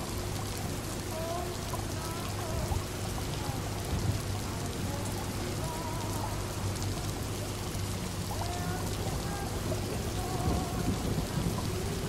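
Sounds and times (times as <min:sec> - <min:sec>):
low steady hum: 0:00.0 - 0:12.0
rain pattering: 0:00.0 - 0:12.0.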